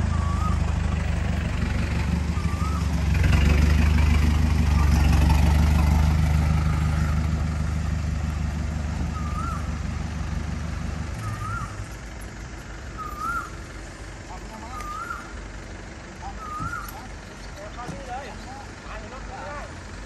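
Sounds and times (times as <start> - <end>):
pickup truck engine running: 0.0 - 20.0.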